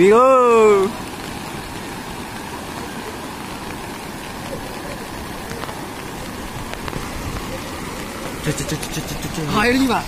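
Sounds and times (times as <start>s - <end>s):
heavy rain falling: 0.0s - 10.0s
river rushing under a bridge: 0.0s - 10.0s.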